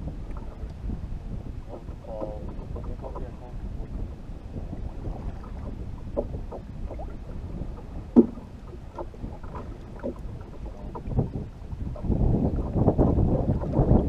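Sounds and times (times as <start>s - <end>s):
small waves slapping boat hull: 0.0s - 14.0s
wind rumbling on microphone: 0.0s - 14.0s.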